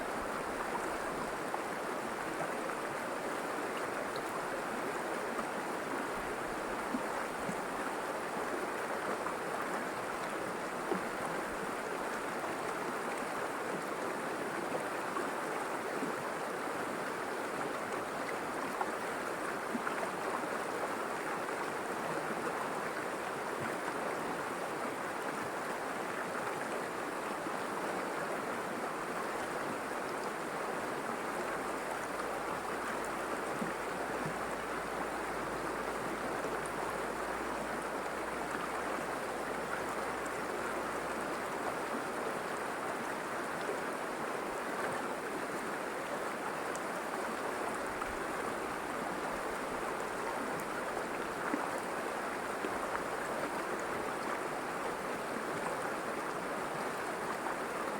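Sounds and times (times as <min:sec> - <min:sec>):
river flowing over rocks: 0:00.0 - 0:57.9.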